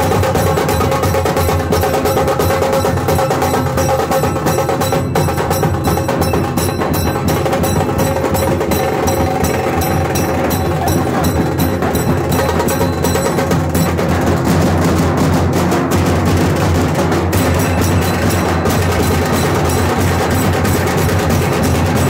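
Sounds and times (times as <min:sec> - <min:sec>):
held ringing tone: 0:00.0 - 0:14.2, 0:17.4 - 0:22.0
drums beaten with sticks: 0:00.0 - 0:22.0.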